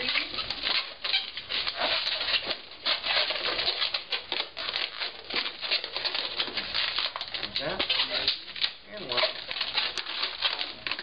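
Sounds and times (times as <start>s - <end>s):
balloons rubbing together: 0.0s - 11.0s.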